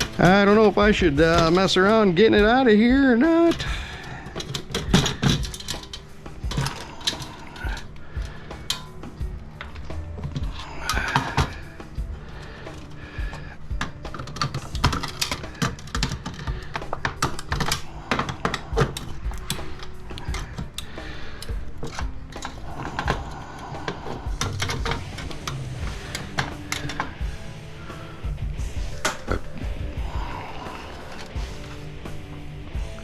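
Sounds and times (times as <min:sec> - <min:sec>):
metal parts clicking and clattering: 0:00.0 - 0:27.5, 0:28.8 - 0:32.0
background music: 0:00.0 - 0:33.0.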